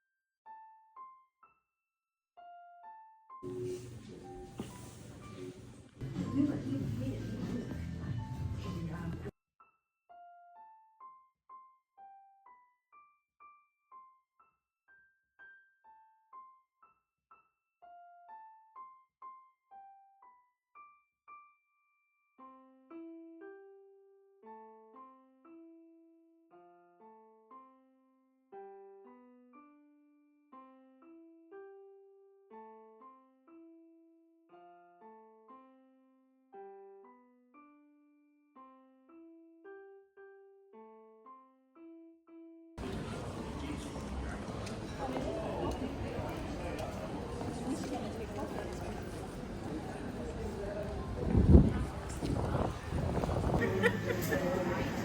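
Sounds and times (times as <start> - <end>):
quiet piano music: 0.5 - 1.6, 2.4 - 21.6, 22.4 - 55.0.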